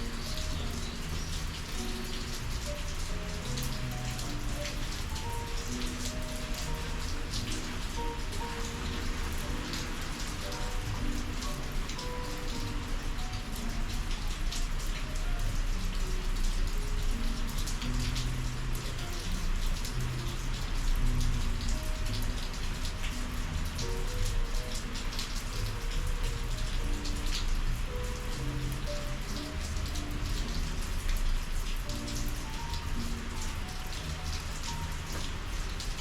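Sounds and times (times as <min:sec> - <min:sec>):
rain hissing: 0:00.0 - 0:36.0
raindrops tapping: 0:00.0 - 0:36.0.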